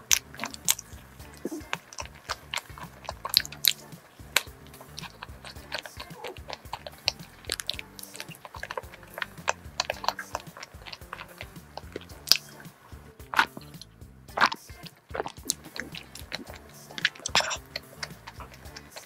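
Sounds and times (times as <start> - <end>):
crunchy biting and chewing: 0.0 - 19.0
sipping from a glass: 0.0 - 19.0
soft background music: 0.0 - 19.0.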